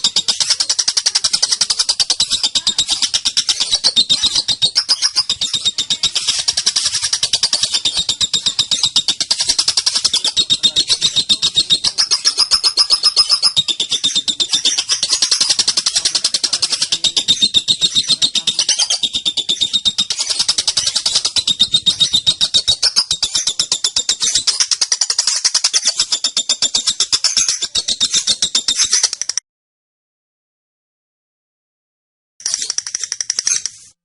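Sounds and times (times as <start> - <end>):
lovebird shrill chatter: 0.0 - 29.4.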